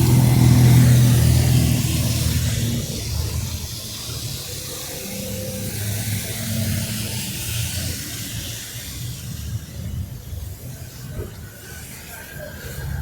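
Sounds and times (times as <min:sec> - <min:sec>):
vehicle engines passing: 0:00.0 - 0:13.0.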